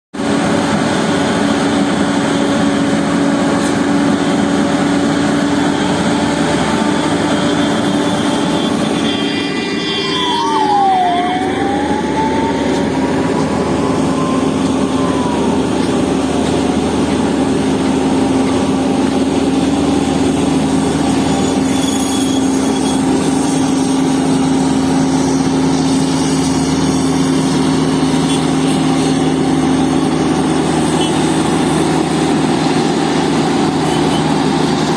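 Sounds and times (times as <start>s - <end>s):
heavy diesel engine running: 0.2s - 34.9s
high machine whine: 0.2s - 34.9s.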